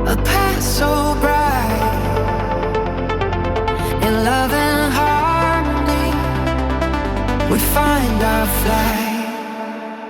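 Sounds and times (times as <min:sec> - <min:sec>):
electronic backing with bass: 0:00.0 - 0:10.0
song with sung vocals: 0:00.0 - 0:10.0.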